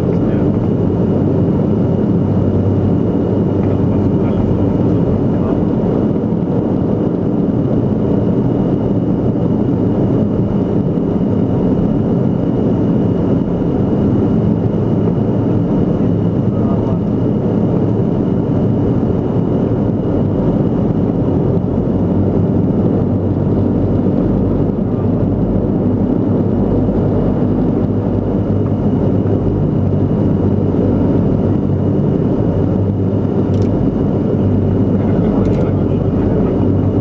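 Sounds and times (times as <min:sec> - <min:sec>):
turboprop engines droning: 0:00.0 - 0:37.0.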